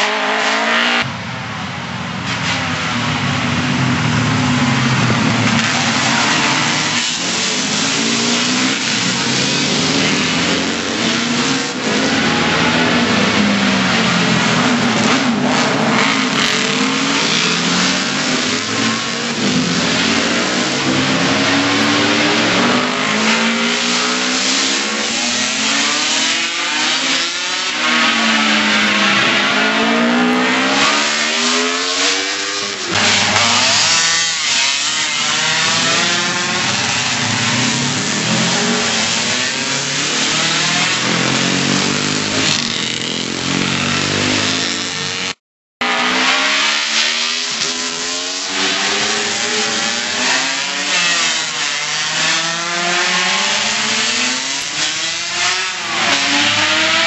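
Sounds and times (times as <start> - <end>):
racing motorcycles passing: 0.0 - 57.0.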